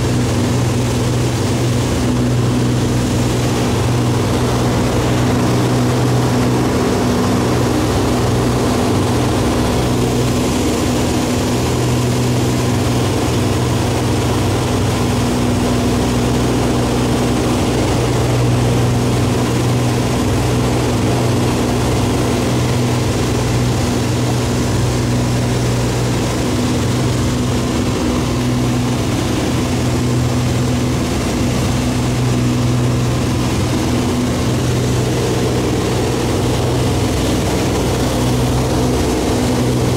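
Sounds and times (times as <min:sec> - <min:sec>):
propeller aircraft engine droning: 0:00.0 - 0:39.9
rushing air noise: 0:00.0 - 0:39.9.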